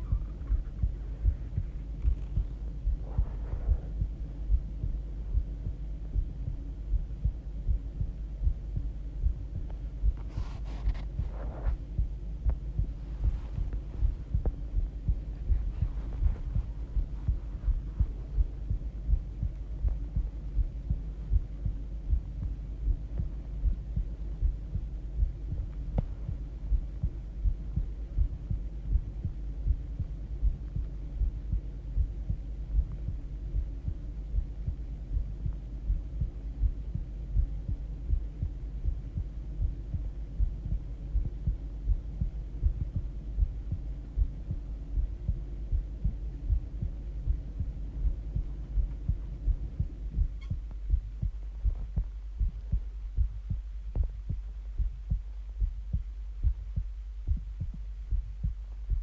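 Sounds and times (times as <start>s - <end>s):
constant low hum: 0.0s - 59.0s
heartbeat thumps: 0.0s - 59.0s.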